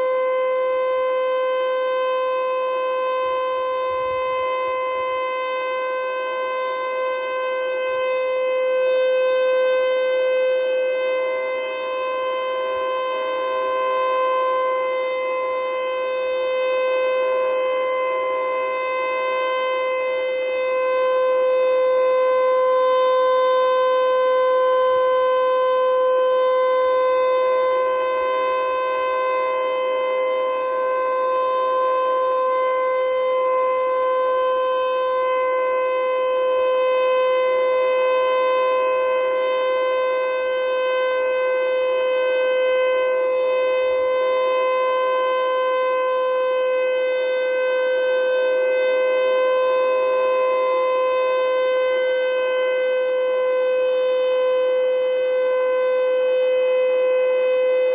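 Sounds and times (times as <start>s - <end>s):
electronic warning siren steady tone: 0.0s - 57.9s.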